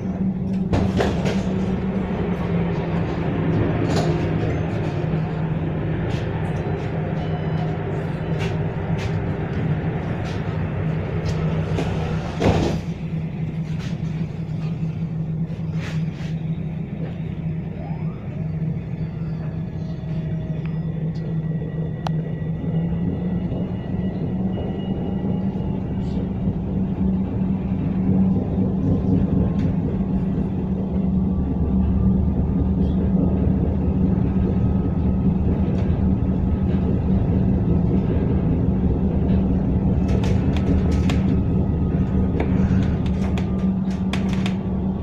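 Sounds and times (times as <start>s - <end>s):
tram hum and rumble: 0.0s - 45.0s.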